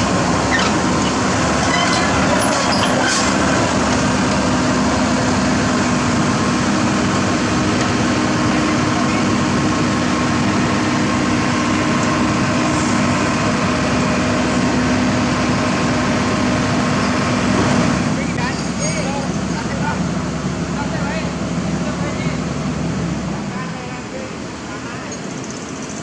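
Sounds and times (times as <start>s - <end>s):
heavy machinery engine droning: 0.0s - 26.0s.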